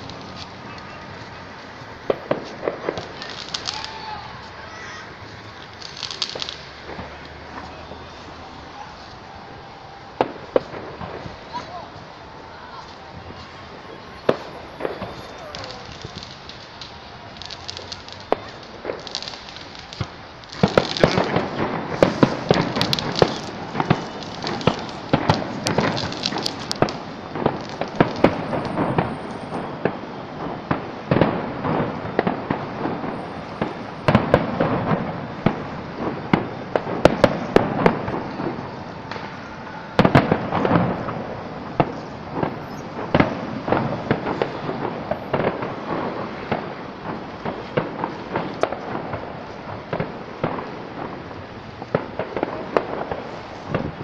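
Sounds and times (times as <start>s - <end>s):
fireworks bangs: 0.0s - 54.0s
fireworks bursting and crackling: 0.0s - 54.0s.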